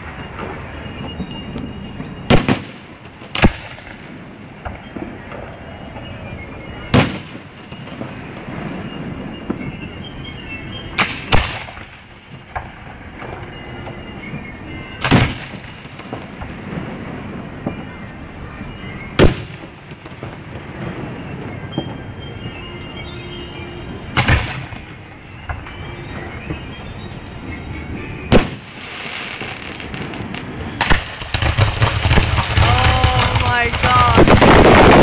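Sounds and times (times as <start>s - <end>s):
fireworks booming: 0.0s - 35.0s
fireworks pops and crackle: 0.0s - 35.0s.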